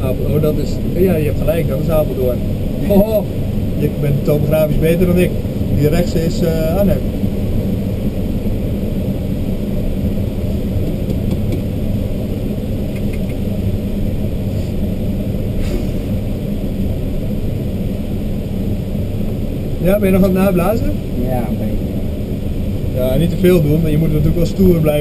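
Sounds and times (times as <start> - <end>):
airflow rumble in glider cockpit: 0.0 - 25.0.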